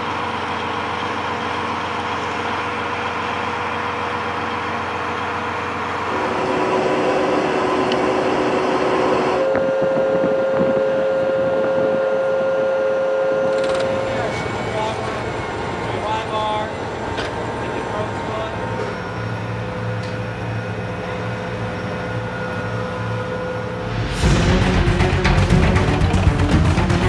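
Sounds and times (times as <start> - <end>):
tank engines whining: 0.0 - 27.0.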